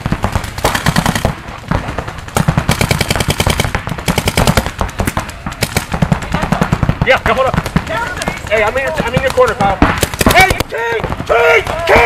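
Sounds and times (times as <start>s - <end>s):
paintball guns firing rapidly: 0.0s - 12.0s.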